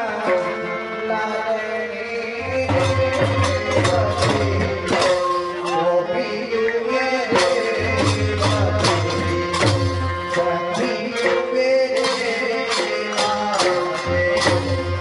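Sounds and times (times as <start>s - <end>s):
hand drums: 2.4s - 15.0s.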